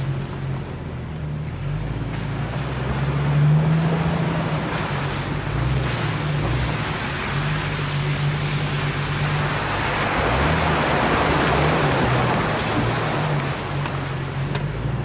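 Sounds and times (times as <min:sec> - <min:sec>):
engine running at low revs: 0:00.0 - 0:15.0
water and mud splashing: 0:00.0 - 0:15.0.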